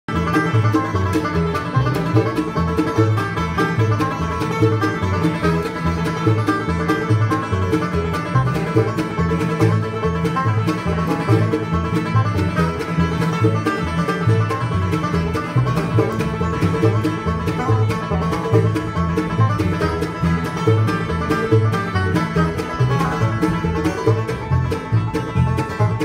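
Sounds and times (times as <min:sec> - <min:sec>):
banjo picking rolls: 0:00.0 - 0:26.0
bluegrass band playing: 0:00.1 - 0:26.0
upright bass notes: 0:00.1 - 0:26.0.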